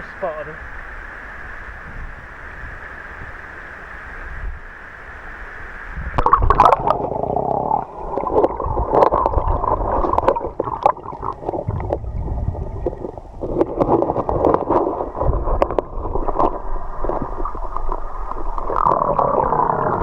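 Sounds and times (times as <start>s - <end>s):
river water gurgling: 0.0s - 20.0s.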